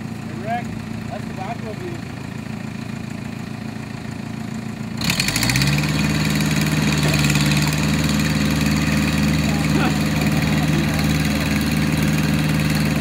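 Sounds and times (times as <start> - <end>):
diesel engine idling and revving: 0.0 - 13.0.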